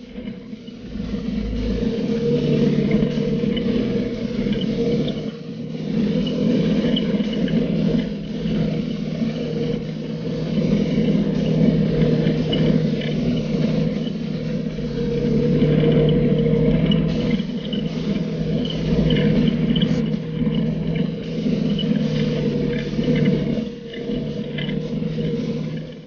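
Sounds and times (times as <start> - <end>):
side-by-side engine running: 0.0 - 26.0.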